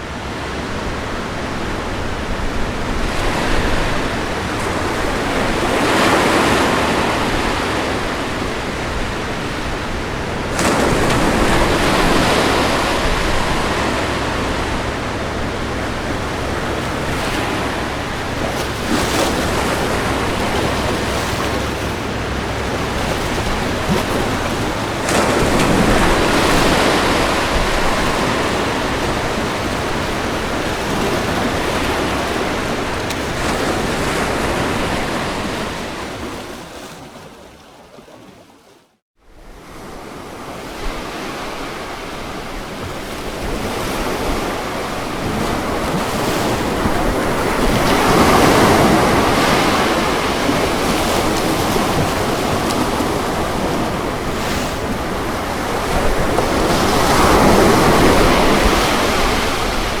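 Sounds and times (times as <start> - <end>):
ocean surf breaking on beach: 0.0 - 37.8, 39.4 - 60.0.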